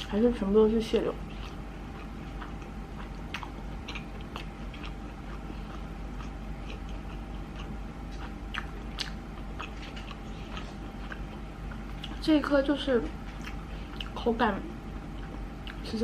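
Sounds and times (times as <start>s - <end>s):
person chewing wet mouth sounds: 1.1s - 12.3s, 13.3s - 14.2s, 15.1s - 15.9s.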